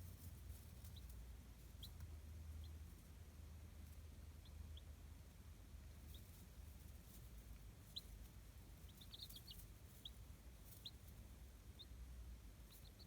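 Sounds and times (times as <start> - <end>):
chicks peeping: 0.0 - 3.2, 3.8 - 13.0
faint low hum: 0.0 - 13.0.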